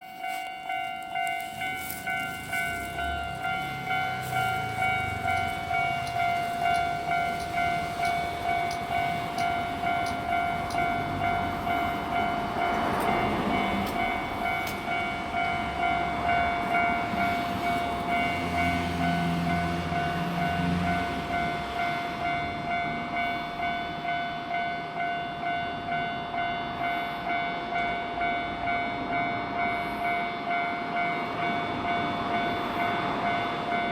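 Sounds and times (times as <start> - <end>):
level crossing bell clanging: 0.0 - 33.9
train passing: 0.0 - 33.9.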